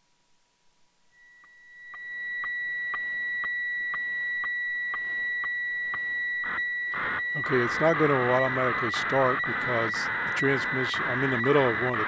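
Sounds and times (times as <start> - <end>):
steady high tone with ticks: 1.2 - 12.0
weather fax radio signal: 2.0 - 12.0.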